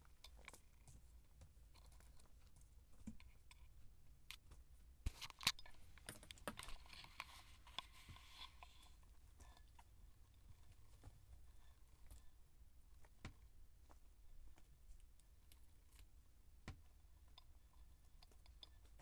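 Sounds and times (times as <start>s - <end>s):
kittens scuffling on a blanket: 0.0s - 16.1s.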